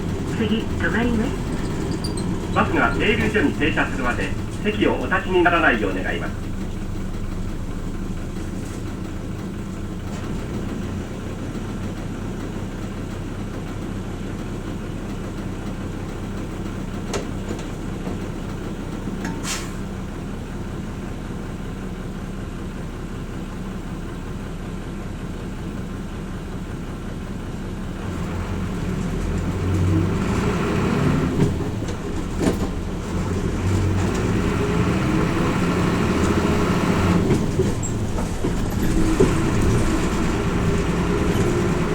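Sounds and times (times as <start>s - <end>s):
bus diesel engine running: 0.0s - 41.9s.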